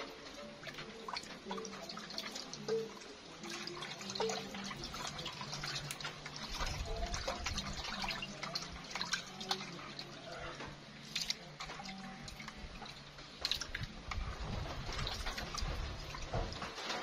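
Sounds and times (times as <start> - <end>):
fish splashing in water basin: 0.0 - 17.0.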